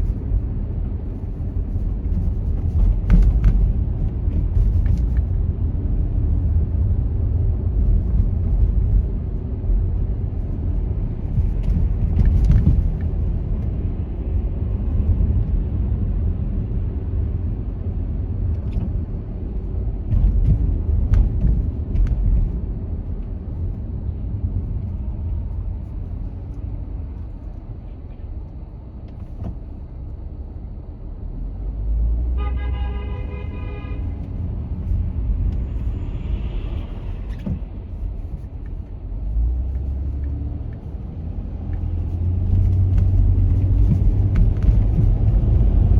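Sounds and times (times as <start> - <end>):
road and engine rumble: 0.0 - 45.9.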